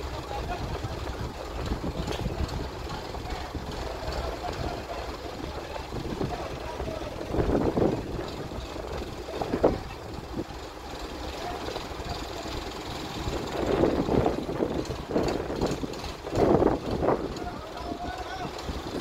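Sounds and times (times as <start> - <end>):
diesel crane engine rumbling: 0.0 - 19.0.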